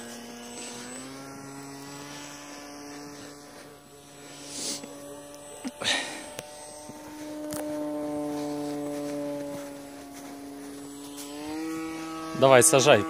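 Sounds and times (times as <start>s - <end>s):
model airplane motor whine: 0.0s - 13.0s.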